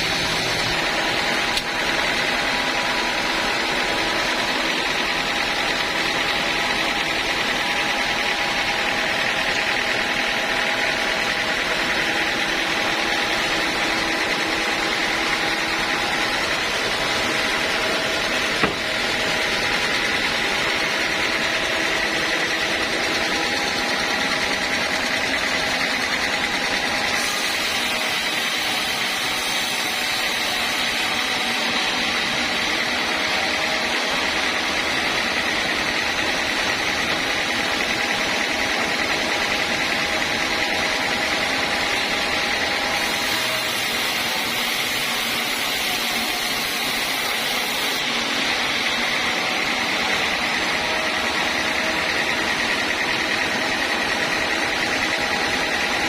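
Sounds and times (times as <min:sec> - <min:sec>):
sawmill saw whining: 0:00.0 - 0:56.0.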